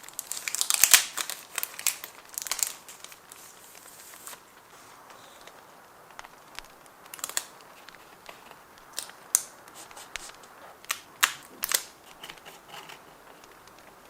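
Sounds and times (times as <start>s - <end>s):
crisp clicks: 0.0s - 14.0s
faint steady hiss: 0.0s - 14.0s
paper rustling: 0.0s - 14.0s.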